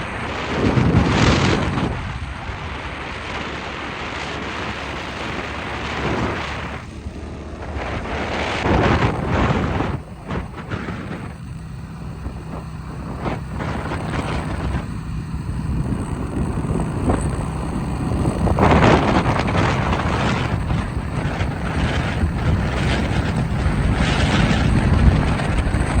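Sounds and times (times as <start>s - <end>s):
engine running steadily: 0.0s - 26.0s
wind on microphone: 0.0s - 26.0s.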